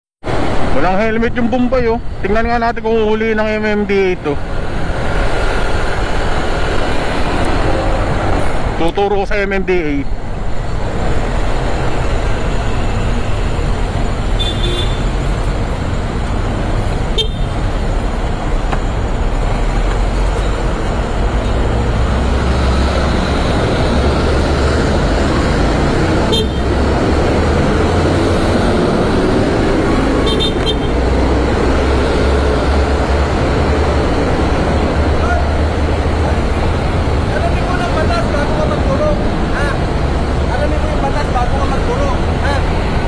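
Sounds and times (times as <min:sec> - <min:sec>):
traffic engines rumbling: 0:00.2 - 0:43.0.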